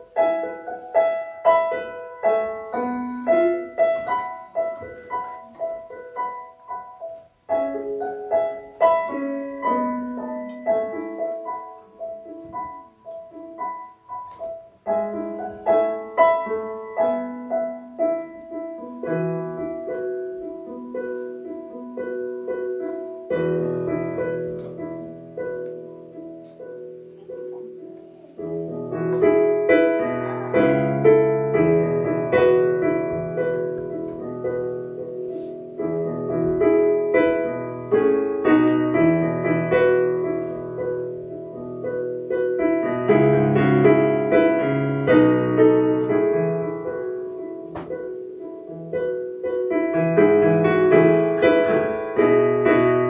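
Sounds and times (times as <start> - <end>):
solo piano chords: 0.0 - 53.0.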